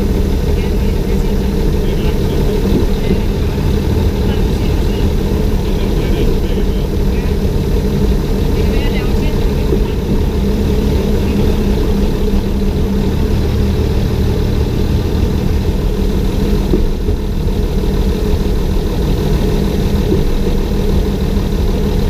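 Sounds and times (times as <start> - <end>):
diesel railcar engine droning: 0.0 - 22.0.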